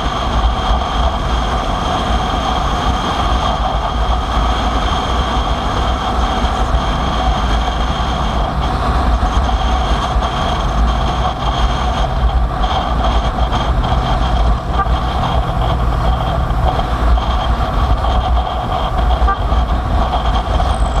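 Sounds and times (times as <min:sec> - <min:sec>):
motorcycle engine drone: 0:00.0 - 0:21.0
wind rumble: 0:00.0 - 0:21.0.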